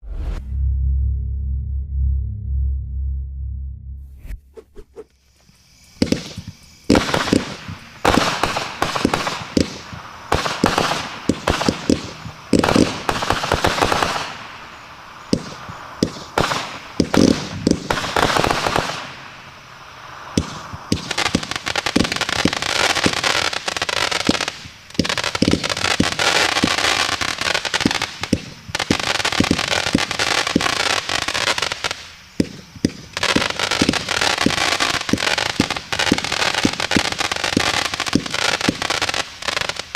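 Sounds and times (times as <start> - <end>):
fireworks launching and bursting: 4.2 - 39.9
firework crackling: 4.6 - 39.9.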